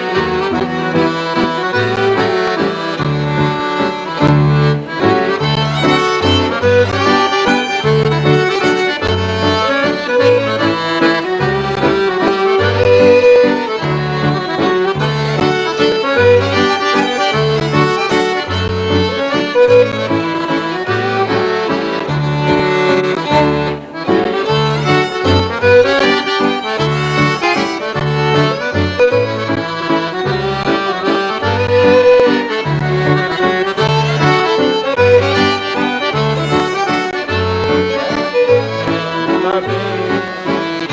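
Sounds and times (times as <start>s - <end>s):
accordion: 0.0s - 40.9s
bass line: 0.0s - 40.9s
fiddle: 0.0s - 40.9s
guitar: 0.0s - 40.9s.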